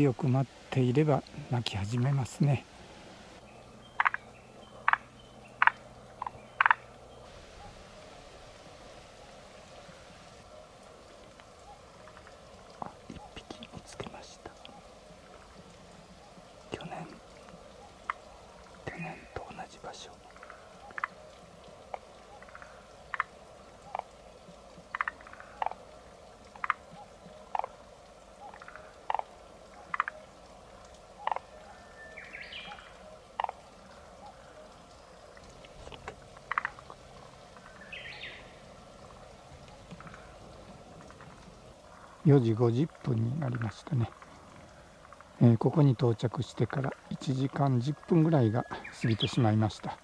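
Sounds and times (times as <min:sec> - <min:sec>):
tree frog croaking: 0:00.0 - 0:50.0.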